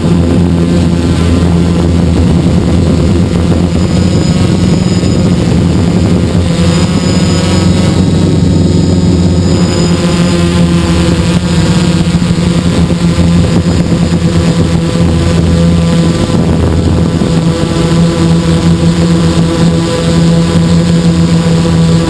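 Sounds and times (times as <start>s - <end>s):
drone motors and propellers humming: 0.0s - 22.0s
rushing air: 0.0s - 22.0s.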